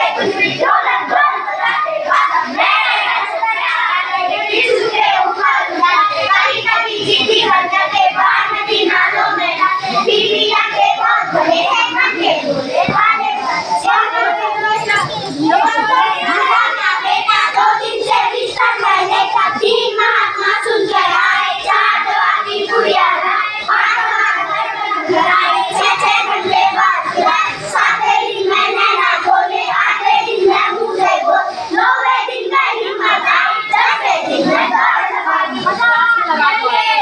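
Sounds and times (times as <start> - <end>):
children singing in unison: 0.0 - 37.0.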